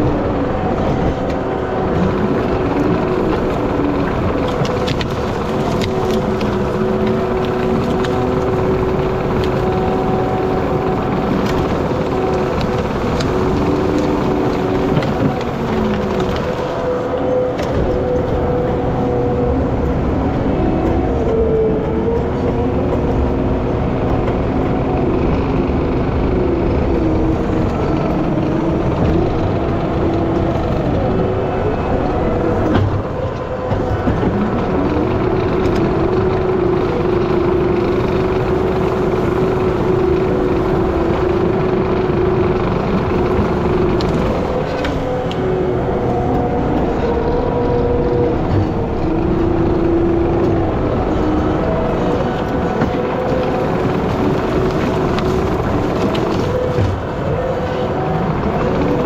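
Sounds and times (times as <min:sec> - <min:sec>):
skid steer engine at high revs: 0:00.0 - 0:59.0.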